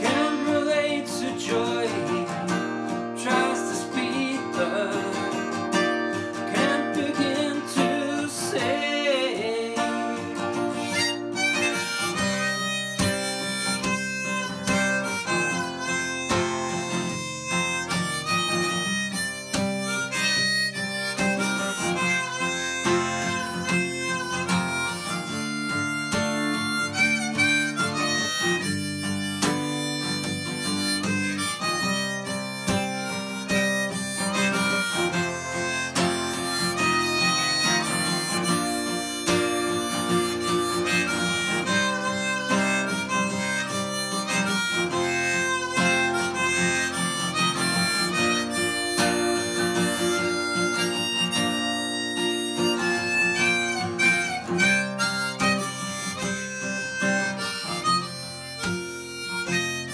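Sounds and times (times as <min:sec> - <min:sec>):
harmonica melody with bent notes: 0:00.0 - 0:59.9
strummed acoustic guitar: 0:00.0 - 0:59.9.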